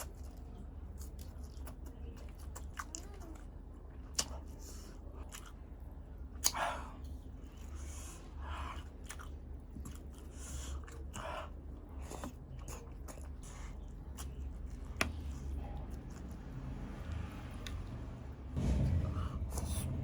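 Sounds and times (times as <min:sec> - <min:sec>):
person chewing egg: 0:00.0 - 0:17.9
steady low hum: 0:03.5 - 0:20.0.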